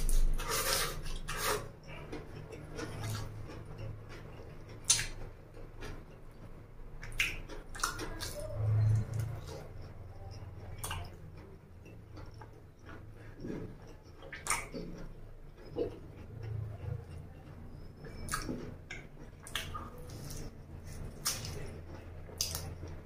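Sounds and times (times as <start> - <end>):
man chewing wetly: 0.0 - 23.0.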